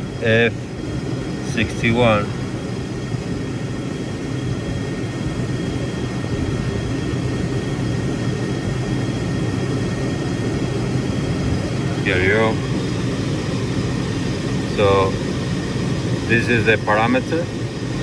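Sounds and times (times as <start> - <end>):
shop machinery drone: 0.0 - 18.0.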